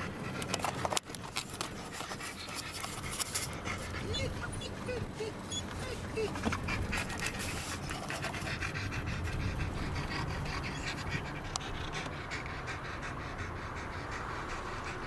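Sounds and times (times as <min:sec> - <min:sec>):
car driving rumble: 0:00.0 - 0:15.0
dog panting: 0:00.0 - 0:15.0.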